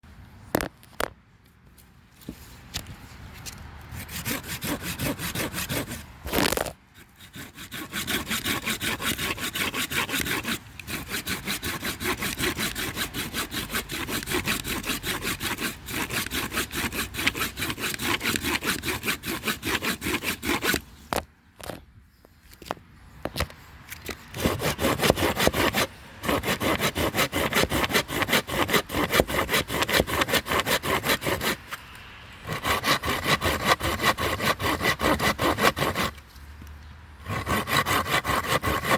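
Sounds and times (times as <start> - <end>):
saw cutting wood: 3.9 - 21.2, 24.0 - 36.4, 37.2 - 38.9.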